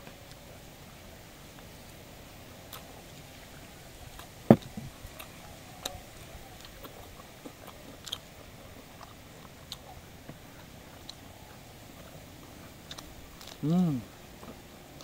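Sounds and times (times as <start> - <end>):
wet chewing mouth sounds: 2.7 - 15.0.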